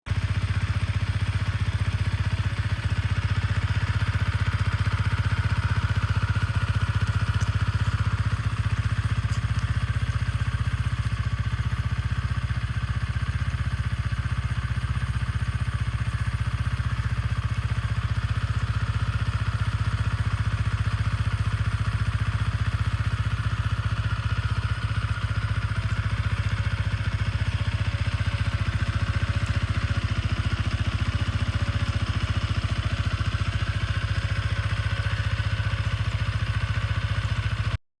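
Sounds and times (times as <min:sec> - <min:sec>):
motorcycle engine idling: 0:00.1 - 0:37.8.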